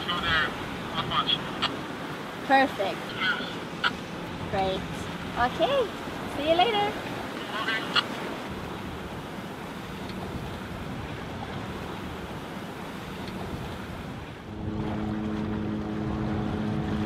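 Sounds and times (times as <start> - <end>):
boat engine drone: 0.0 - 17.0
wind and water rushing: 0.0 - 17.0.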